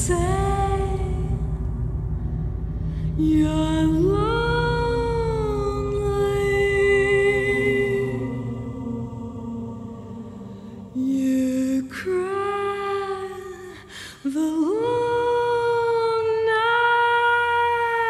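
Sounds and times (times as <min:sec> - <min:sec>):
person singing long notes: 0:03.2 - 0:18.0.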